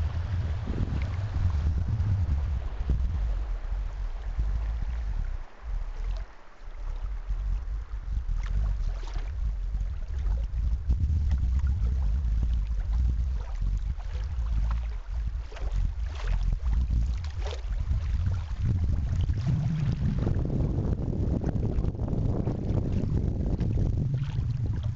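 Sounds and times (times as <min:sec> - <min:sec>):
water lapping against kayak: 0:00.0 - 0:24.9
wind rumbling on microphone: 0:00.0 - 0:24.9.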